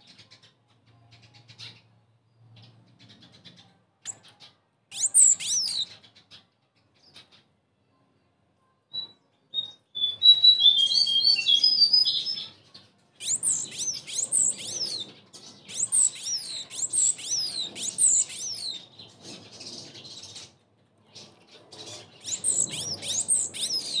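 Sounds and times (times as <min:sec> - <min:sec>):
bird calling and singing: 0:02.5 - 0:07.4, 0:09.0 - 0:24.0.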